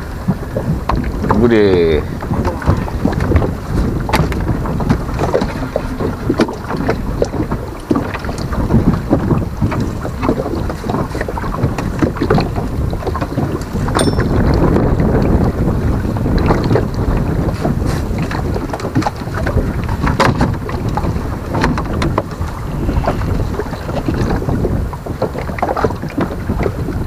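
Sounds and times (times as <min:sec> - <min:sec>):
sea water slapping and lapping: 0:00.0 - 0:27.0
wind buffeting the microphone: 0:00.0 - 0:27.0
short splashes and knocks: 0:00.2 - 0:27.0.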